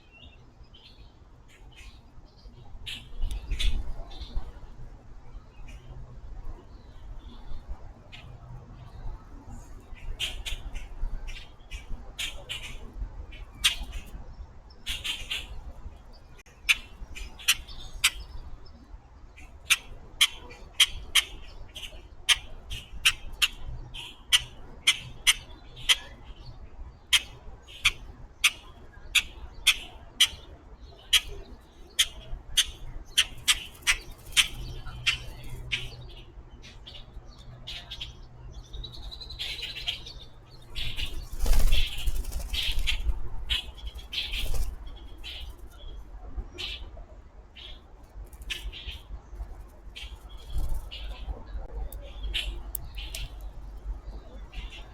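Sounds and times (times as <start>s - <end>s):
birds chirping: 5.5s - 54.9s.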